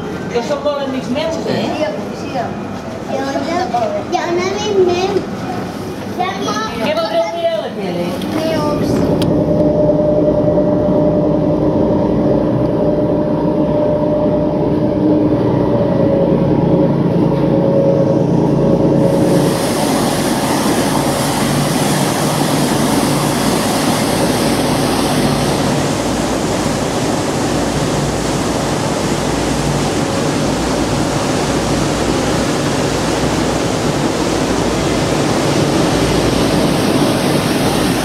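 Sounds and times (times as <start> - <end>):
motor boat engine droning: 0.0 - 38.0
water washing along hull: 0.0 - 38.0
wind: 0.0 - 38.0
rushing wake water: 3.1 - 38.0.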